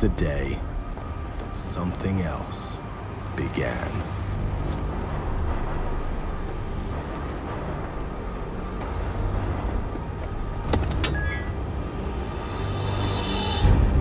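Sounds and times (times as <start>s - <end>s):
traffic rumble: 0.0s - 12.5s.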